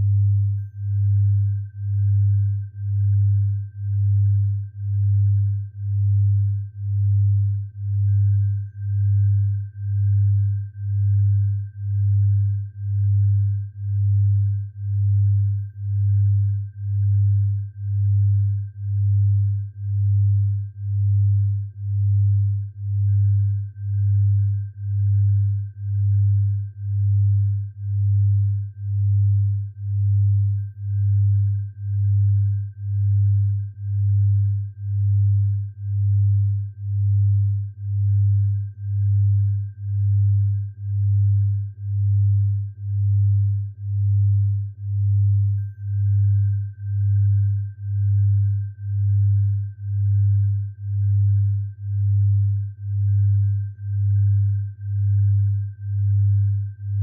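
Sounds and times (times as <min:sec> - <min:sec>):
faint steady high tone: 0:00.0 - 0:57.0
low pulsing pure tone: 0:00.0 - 0:57.0.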